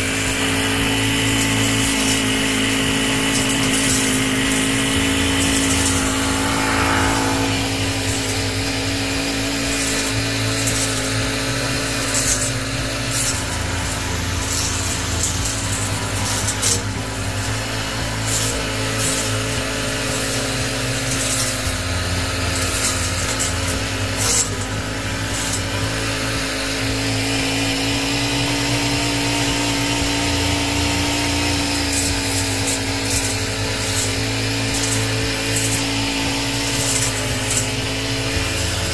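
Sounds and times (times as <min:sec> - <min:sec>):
garden trimmer running: 0:00.0 - 0:38.9.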